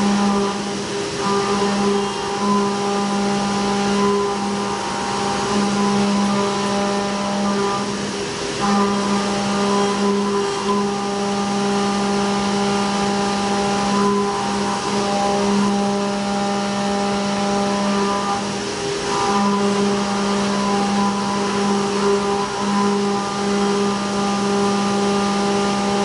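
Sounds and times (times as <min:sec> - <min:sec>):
milling machine humming: 0:00.0 - 0:26.0.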